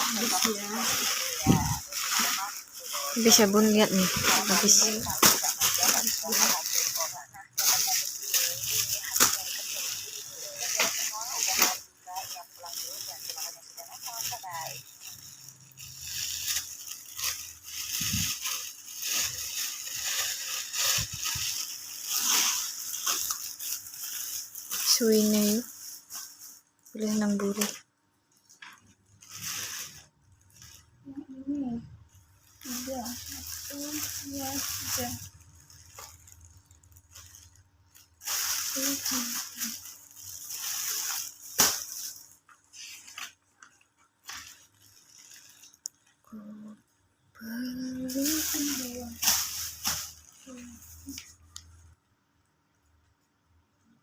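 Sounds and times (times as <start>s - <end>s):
plastic packaging crinkling: 0.0s - 46.8s, 47.4s - 52.0s.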